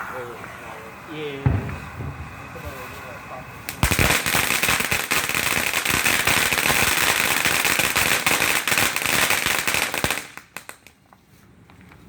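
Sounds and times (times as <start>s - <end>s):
firework crackling: 0.0s - 11.1s.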